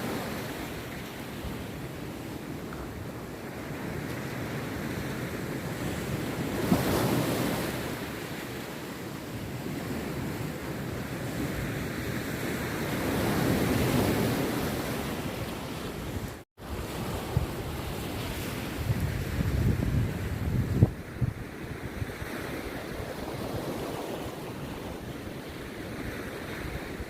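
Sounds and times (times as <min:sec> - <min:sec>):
sea surf breaking on beach: 0:00.0 - 0:27.0.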